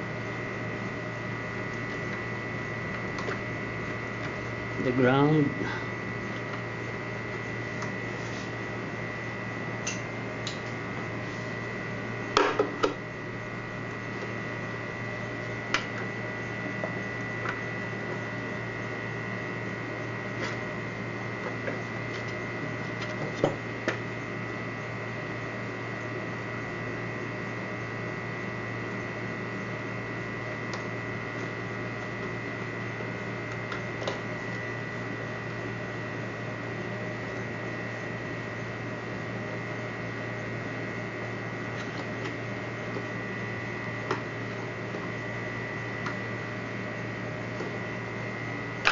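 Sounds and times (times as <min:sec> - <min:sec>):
electrical hum with high whine: 0:00.0 - 0:48.9.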